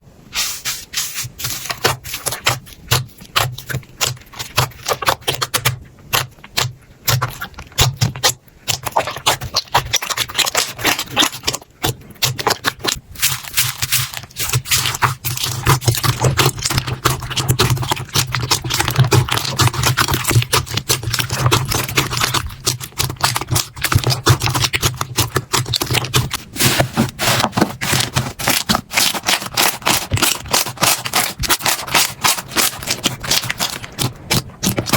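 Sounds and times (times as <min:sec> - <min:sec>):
slime squished by hand: 0:00.4 - 0:34.9.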